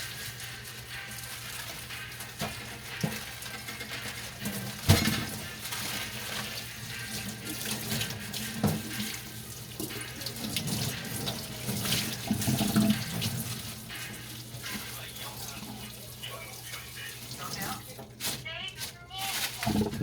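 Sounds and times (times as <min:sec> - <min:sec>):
tap water running into sink: 0:00.0 - 0:18.2, 0:19.6 - 0:20.0.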